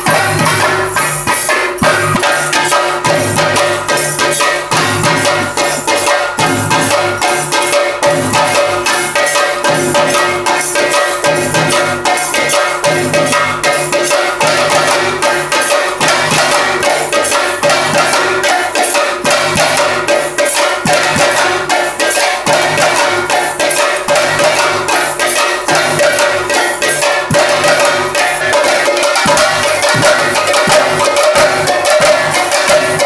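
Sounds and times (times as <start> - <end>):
drums playing fast rhythm: 0.0 - 33.0
metal hand cymbals: 0.0 - 33.0.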